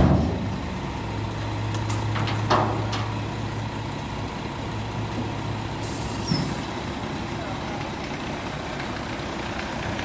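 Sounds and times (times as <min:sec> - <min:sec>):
garbage truck engine idling: 0:00.0 - 0:10.0.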